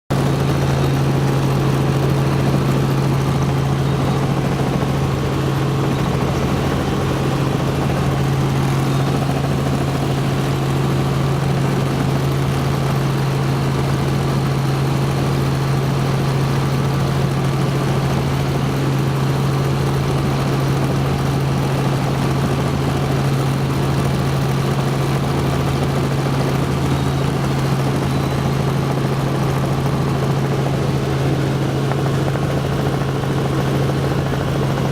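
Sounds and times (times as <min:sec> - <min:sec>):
helicopter engine and rotor: 0:00.1 - 0:34.9.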